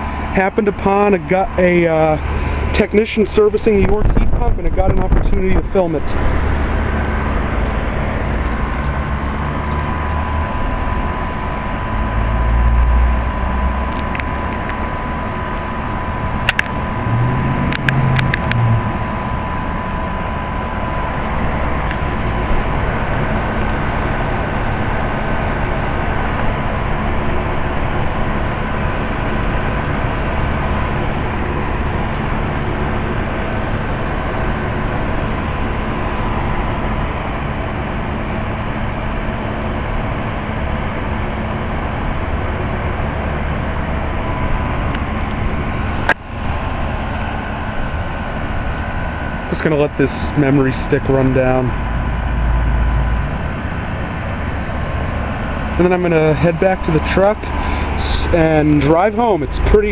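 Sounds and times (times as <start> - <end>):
heat pump humming: 0.0 - 59.9.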